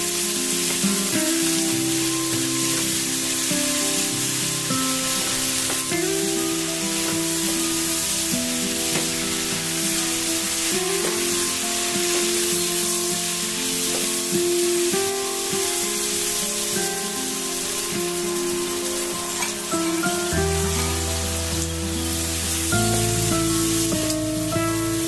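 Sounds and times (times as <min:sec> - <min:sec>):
food sizzling in a wok: 0:00.0 - 0:25.0
soft background music: 0:00.0 - 0:25.0.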